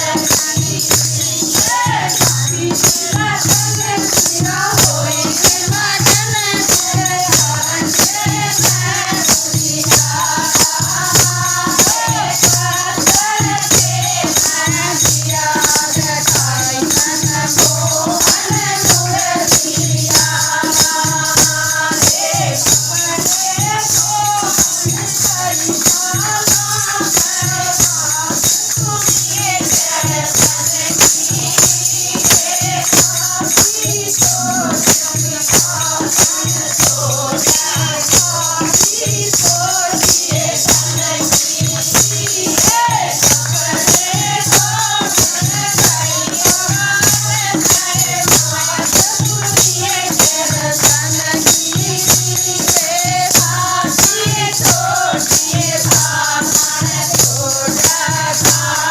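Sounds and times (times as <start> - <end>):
jingling hand percussion: 0.0 - 58.9
percussion beat: 0.0 - 58.9
voices singing devotional song: 0.0 - 58.9.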